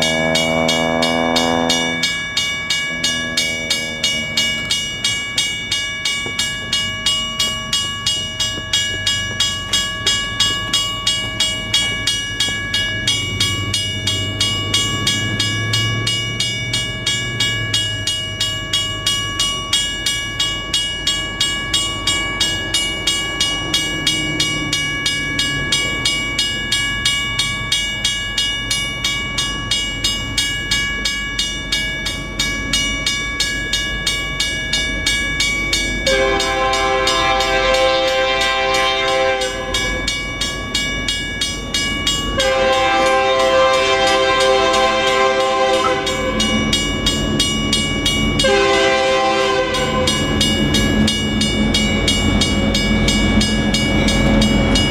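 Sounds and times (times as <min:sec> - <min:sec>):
mechanical crossing bell ringing: 0:00.0 - 0:54.9.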